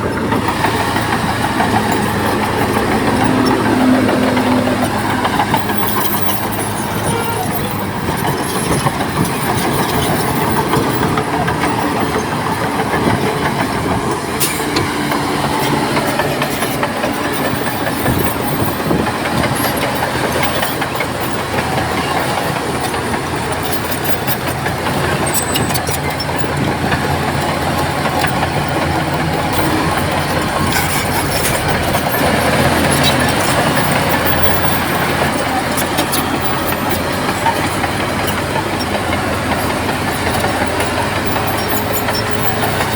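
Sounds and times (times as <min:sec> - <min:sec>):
bulldozer diesel engines under load: 0:00.0 - 0:42.9
steel tracks clanking: 0:00.0 - 0:42.9.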